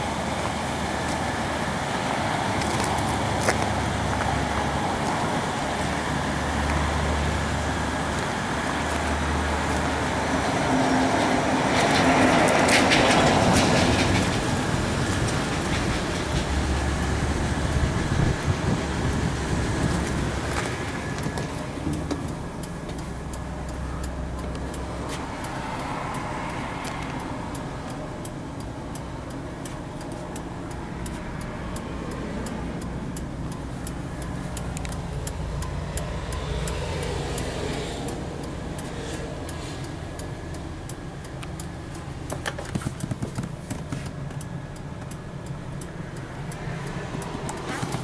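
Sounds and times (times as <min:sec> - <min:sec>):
bus engine idling: 0:00.0 - 0:48.0.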